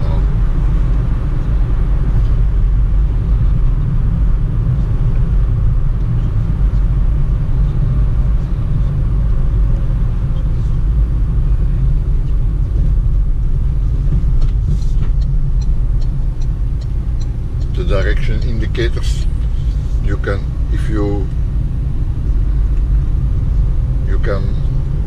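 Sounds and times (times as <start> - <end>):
in-cabin road and engine rumble: 0.0 - 25.0
turn indicator ticking: 1.0 - 25.0.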